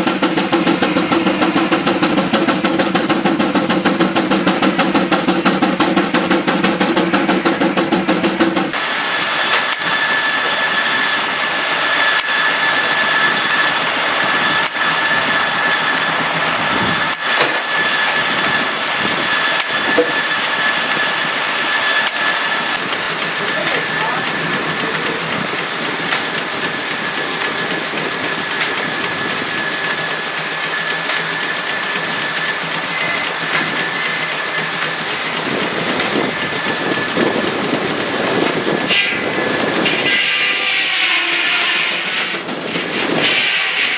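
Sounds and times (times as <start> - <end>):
loud rushing hiss: 0.0 - 43.9
sawmill saw whining: 0.0 - 43.9.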